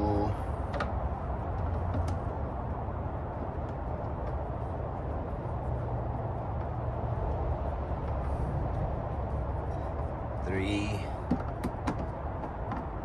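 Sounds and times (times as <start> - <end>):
low rumble of background noise: 0.0 - 13.0.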